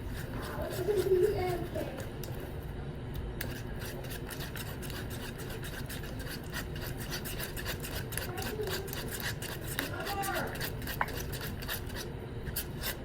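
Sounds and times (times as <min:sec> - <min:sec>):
slime being stirred in bowl: 0:00.0 - 0:13.0.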